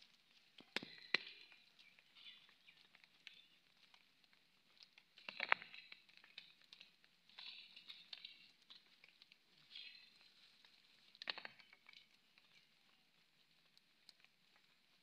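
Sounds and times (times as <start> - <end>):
soil crumbling and pattering: 0.0 - 15.0.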